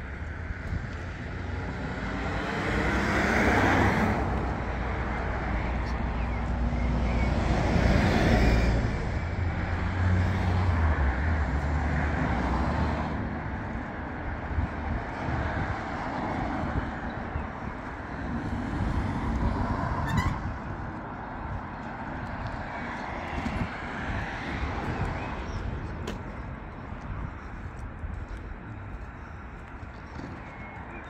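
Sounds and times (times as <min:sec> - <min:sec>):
road traffic rumbling: 0:00.0 - 0:31.0.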